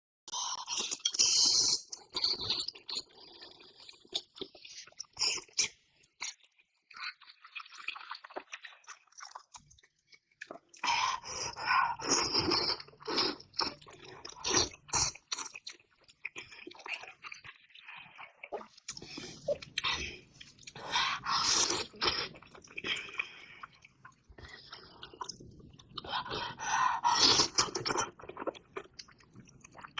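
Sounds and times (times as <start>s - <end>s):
person chewing and crunching: 0.3s - 10.8s, 12.0s - 29.9s.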